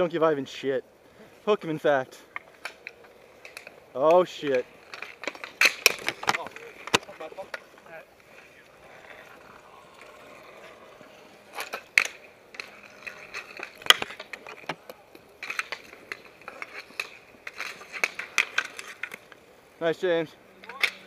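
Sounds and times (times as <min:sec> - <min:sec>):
inline skate wheels rolling: 0:00.0 - 0:21.0
hockey sticks clacking: 0:01.5 - 0:19.5, 0:20.5 - 0:21.0.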